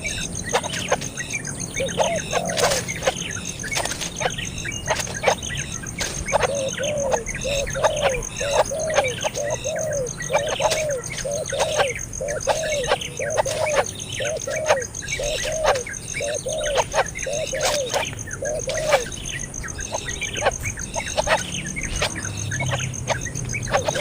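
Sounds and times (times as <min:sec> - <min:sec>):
baby bird chirping and squeaking: 0:00.0 - 0:01.2, 0:01.8 - 0:24.0.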